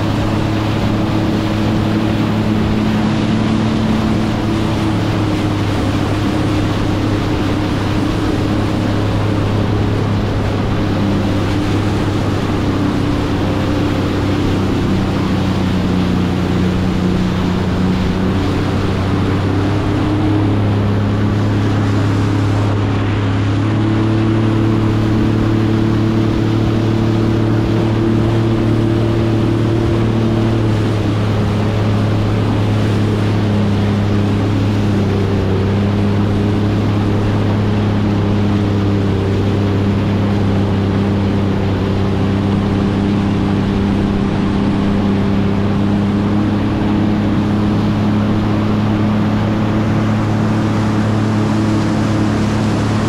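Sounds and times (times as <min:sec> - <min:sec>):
jet ski engine running: 0:00.0 - 0:53.0
water spray rushing: 0:00.0 - 0:53.0
wind: 0:00.0 - 0:53.0.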